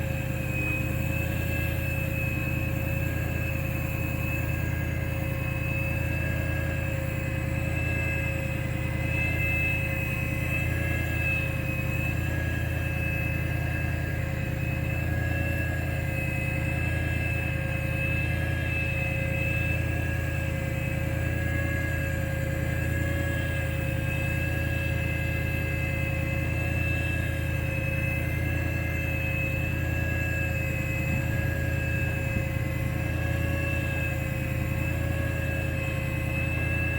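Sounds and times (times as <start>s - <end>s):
machine rumbling with high whine: 0.0s - 36.9s.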